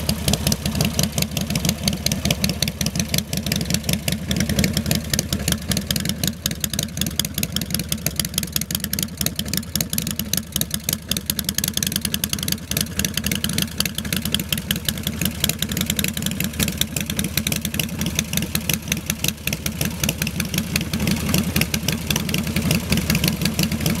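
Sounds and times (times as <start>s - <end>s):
motorcycle engine idling with loping beat: 0.0s - 24.0s.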